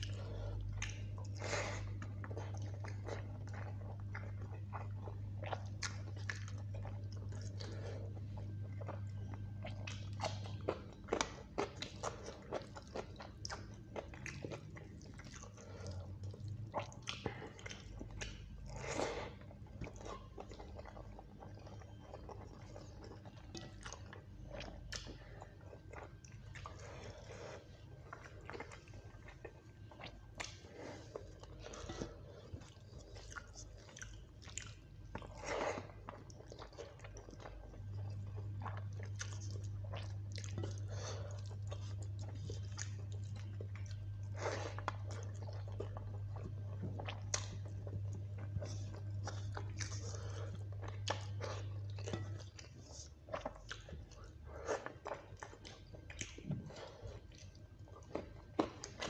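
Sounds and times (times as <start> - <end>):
steady low hum: 0.0 - 59.0
wet chewing and mouth smacking: 0.0 - 59.0.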